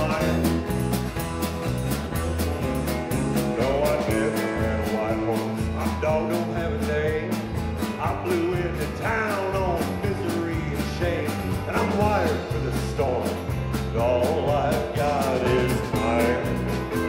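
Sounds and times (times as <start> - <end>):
man singing: 0.0 - 0.6, 3.2 - 17.0
drum kit steady beat: 0.0 - 17.0
electric bass: 0.0 - 17.0
electric guitar: 0.0 - 17.0
strummed acoustic guitar: 0.0 - 17.0.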